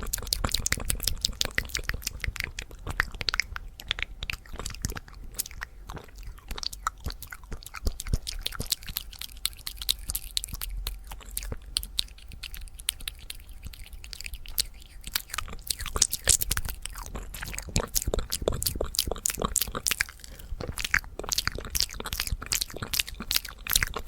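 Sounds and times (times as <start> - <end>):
wet mouth clicks and smacks: 0.0 - 24.0.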